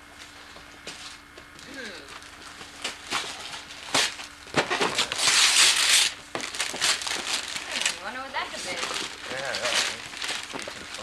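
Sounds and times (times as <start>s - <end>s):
wrapping paper crackling and tearing: 2.1s - 11.0s.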